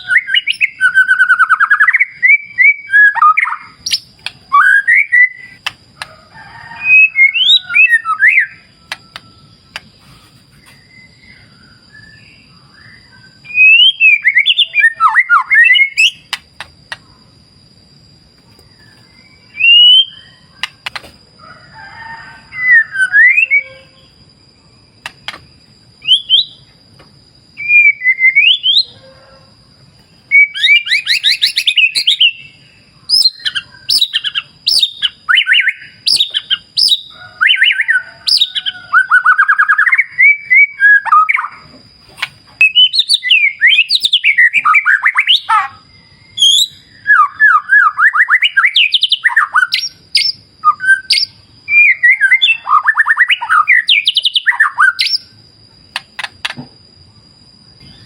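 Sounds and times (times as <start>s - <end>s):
bird whistling song: 0.0s - 5.8s, 6.8s - 17.2s, 18.5s - 21.0s, 22.2s - 24.2s, 25.0s - 26.7s, 27.6s - 29.0s, 30.0s - 41.7s, 42.5s - 56.6s.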